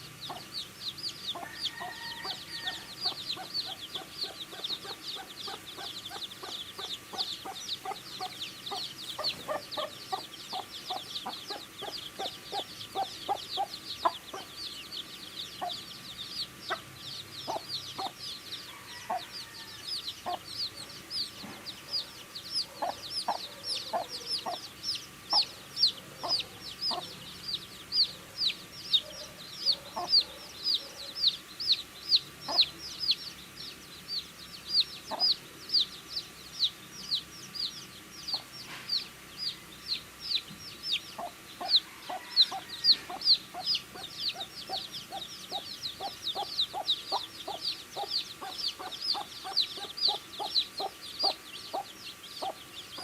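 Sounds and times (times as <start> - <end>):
baby chicks peeping: 0.0 - 53.0.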